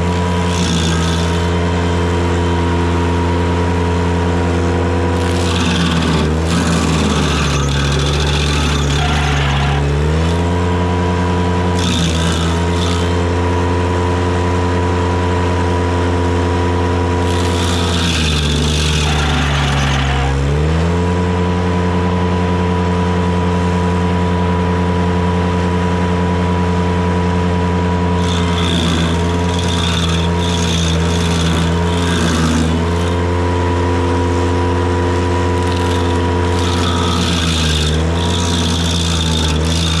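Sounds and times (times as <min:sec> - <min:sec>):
harsh grinding of wood: 0:00.0 - 0:25.2, 0:27.2 - 0:40.0
tractor engine running hard: 0:00.0 - 0:40.0.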